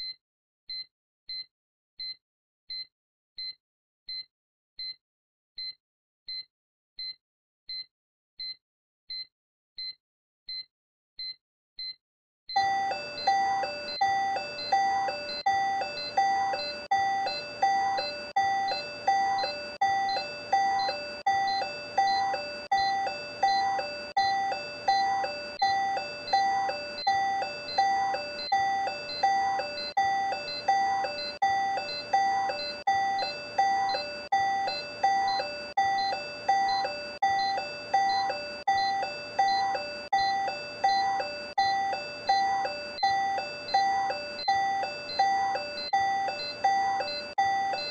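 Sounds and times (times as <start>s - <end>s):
cardiac monitor pulse beeps: 0.0s - 5.0s, 5.6s - 47.9s.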